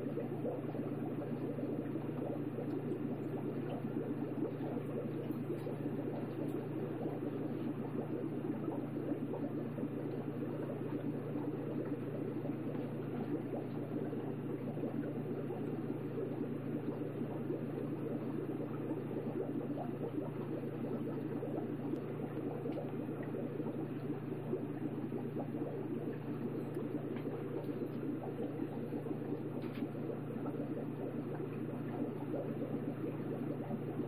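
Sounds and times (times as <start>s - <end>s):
aquarium water bubbling: 0.0s - 34.0s
constant low hum: 0.0s - 34.0s.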